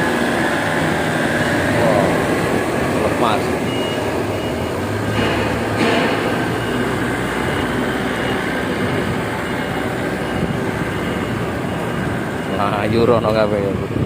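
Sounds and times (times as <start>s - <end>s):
crane engine running: 0.0s - 14.0s.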